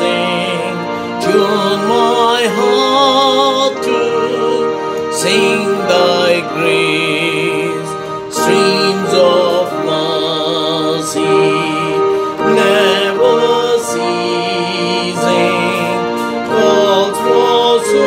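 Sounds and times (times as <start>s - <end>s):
instrumental accompaniment: 0.0s - 18.0s
person singing a hymn: 0.0s - 18.0s.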